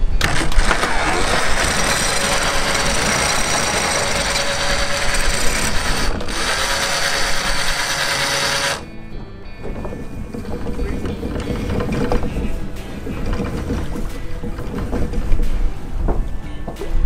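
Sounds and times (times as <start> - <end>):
anchor windlass running: 0.0 - 16.4.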